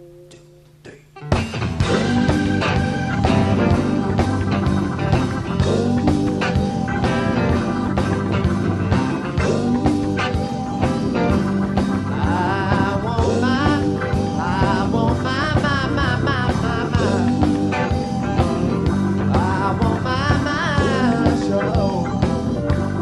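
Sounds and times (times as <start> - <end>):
lead guitar bending notes: 0.0 - 23.0
band playing funk-rock: 1.2 - 23.0.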